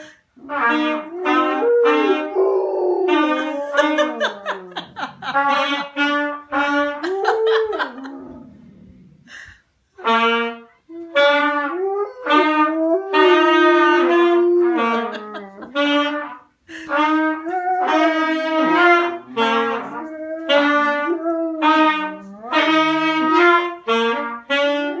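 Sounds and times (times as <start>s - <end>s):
trumpet: 0.0s - 8.0s, 10.0s - 25.0s
saxophone: 0.4s - 8.5s, 10.0s - 25.0s.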